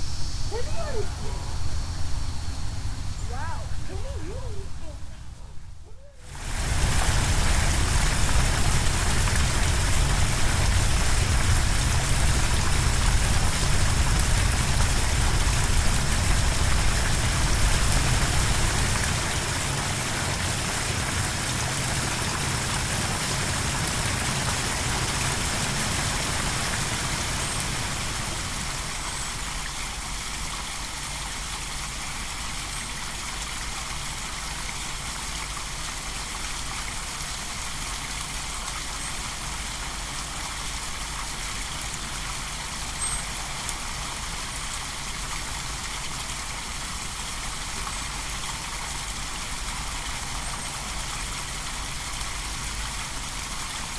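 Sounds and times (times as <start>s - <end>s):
rushing water with low rumble: 0.0s - 53.9s.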